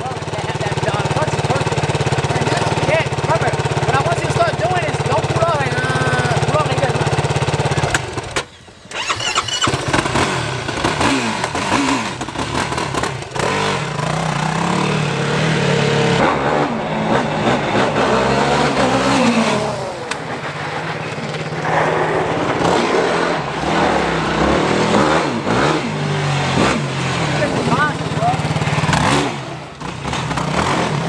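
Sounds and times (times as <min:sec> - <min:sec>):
quad bike engine revving: 0:00.0 - 0:31.0.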